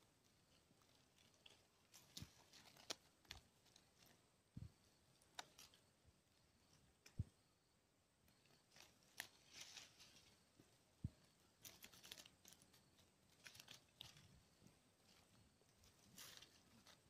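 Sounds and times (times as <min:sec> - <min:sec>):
faint rustling and crackling: 0:00.0 - 0:07.5, 0:08.2 - 0:17.0.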